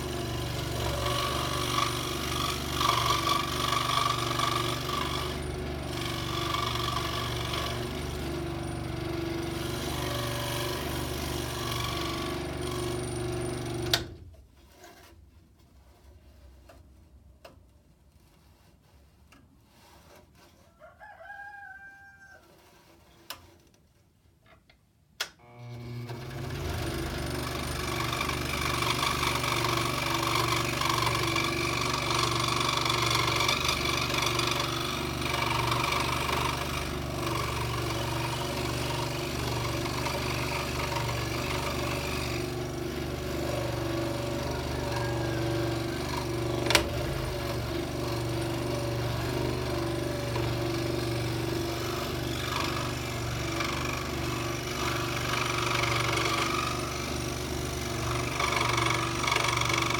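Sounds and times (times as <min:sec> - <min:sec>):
scroll saw running: 0:00.0 - 0:15.1, 0:25.3 - 0:59.9.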